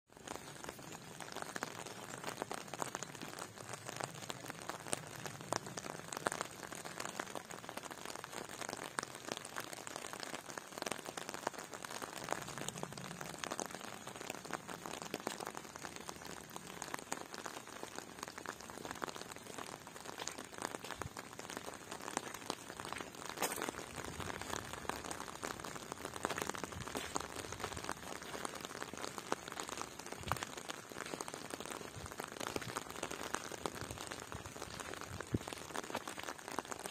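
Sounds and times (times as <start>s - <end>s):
rain falling: 0.1s - 36.9s.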